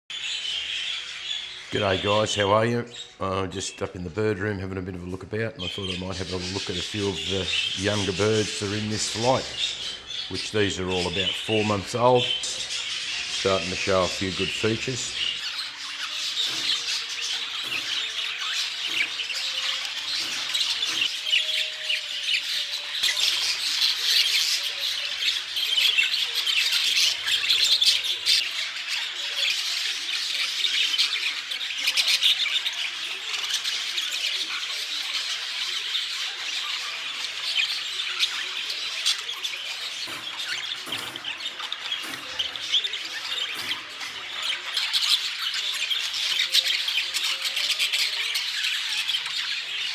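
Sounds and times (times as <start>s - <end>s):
flock of budgerigars chirping: 0.1s - 49.9s.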